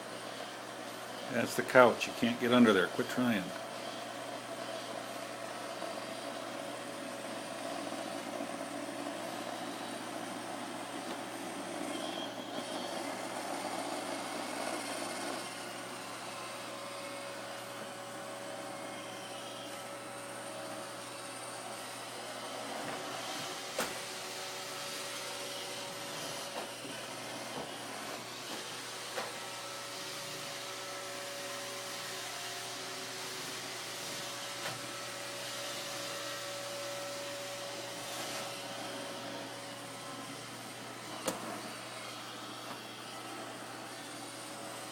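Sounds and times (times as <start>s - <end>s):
robot vacuum whirring: 4.8s - 44.9s.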